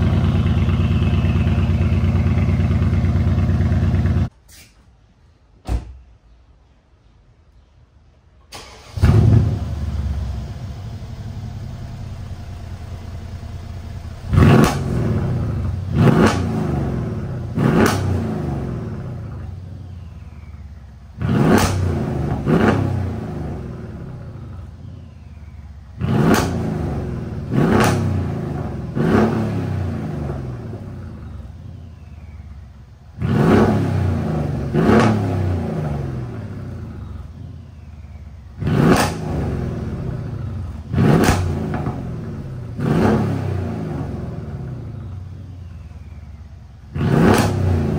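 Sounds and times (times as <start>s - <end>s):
car engine revving: 0.0s - 4.3s, 8.6s - 32.4s, 33.1s - 37.4s, 38.5s - 46.1s, 46.8s - 47.9s
car engine starting and idling: 0.0s - 4.3s, 8.5s - 47.9s.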